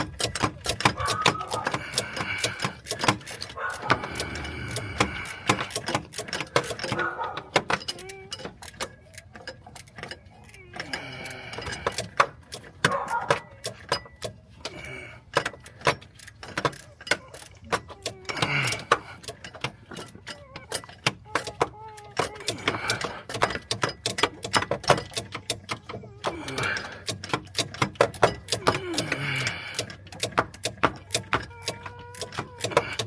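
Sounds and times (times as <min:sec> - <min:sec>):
wrench clicking on metal bolt: 0:00.0 - 0:33.0.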